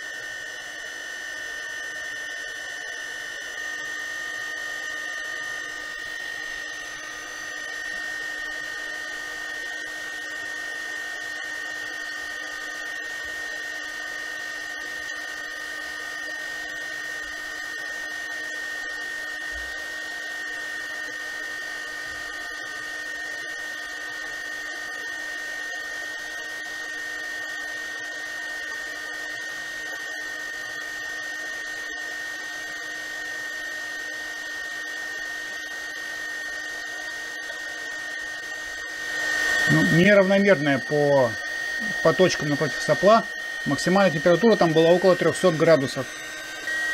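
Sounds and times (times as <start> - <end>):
heat gun fan blowing: 0.0 - 46.9.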